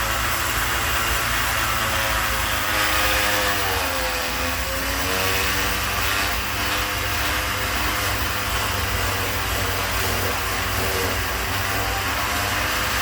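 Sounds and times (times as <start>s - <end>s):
oscillating sander sanding wood: 0.0s - 13.0s.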